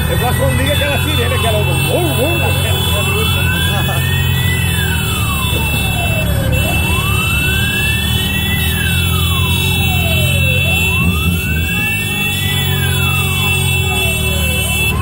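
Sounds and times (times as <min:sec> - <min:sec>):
low rumble of vehicle engines: 0:00.0 - 0:15.0
siren wailing slowly: 0:00.0 - 0:15.0.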